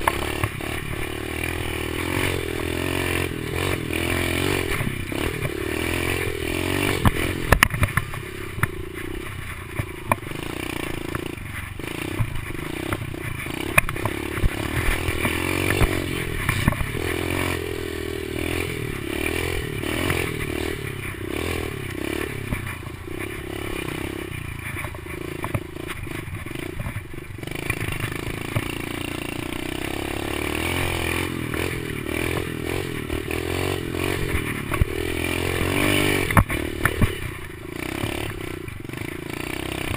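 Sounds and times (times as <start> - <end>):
bike rattling over rough trail: 0.0 - 39.9
small motorbike engine revving: 0.0 - 39.9.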